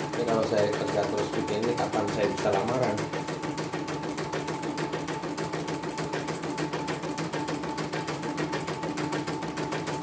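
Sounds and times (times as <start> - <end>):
embroidery machine needle beat: 0.0 - 10.0.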